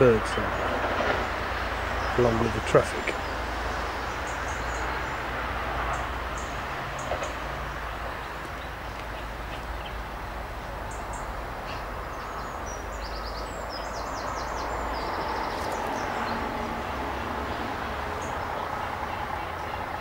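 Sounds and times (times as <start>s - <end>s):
road traffic hum: 0.0s - 20.0s
songbird singing: 0.0s - 20.0s.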